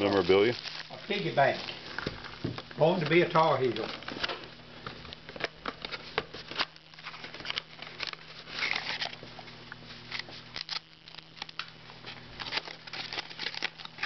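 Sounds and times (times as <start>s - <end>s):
cardboard packaging rustling: 0.0s - 4.4s, 5.3s - 9.5s, 10.1s - 14.0s.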